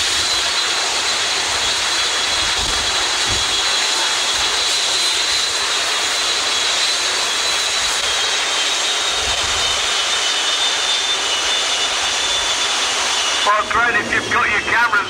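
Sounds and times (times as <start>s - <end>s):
jet engine whine and roar: 0.0s - 15.0s.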